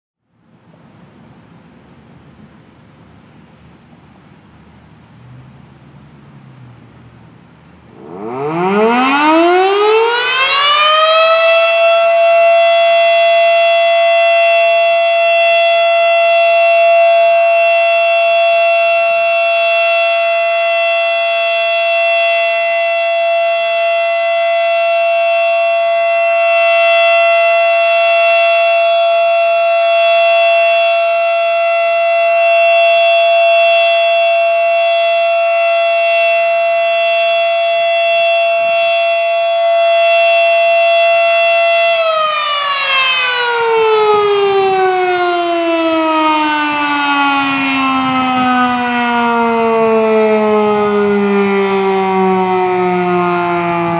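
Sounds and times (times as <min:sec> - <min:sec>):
warning siren: 0:05.2 - 0:53.9.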